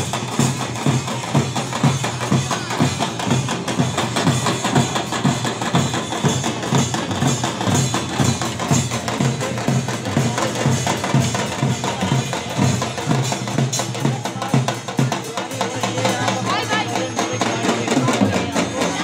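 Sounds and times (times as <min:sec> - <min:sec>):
folk drums beating: 0:00.0 - 0:19.0.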